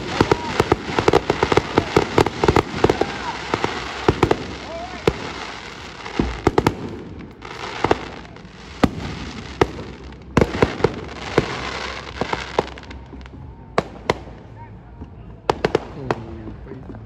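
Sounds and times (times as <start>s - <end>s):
continuous background noise: 0.0s - 17.0s
fireworks bangs and pops: 0.0s - 17.0s.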